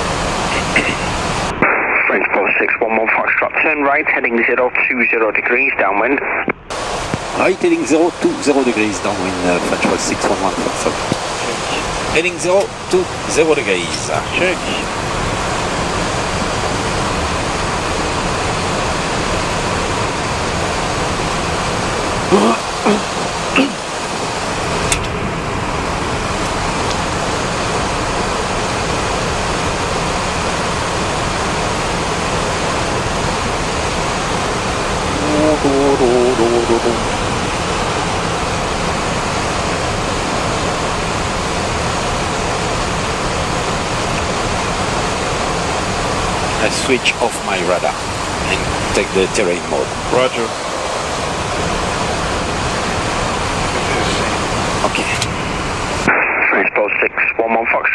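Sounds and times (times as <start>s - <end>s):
aircraft engine noise: 0.0s - 1.7s, 6.3s - 56.7s
airflow rushing around cockpit: 0.0s - 1.7s, 6.7s - 56.2s.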